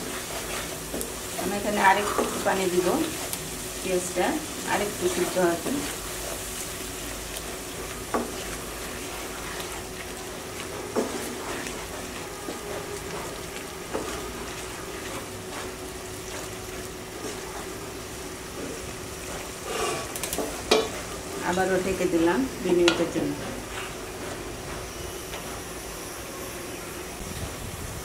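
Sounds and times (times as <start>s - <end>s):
paste sizzling and bubbling in pan: 0.0s - 28.0s.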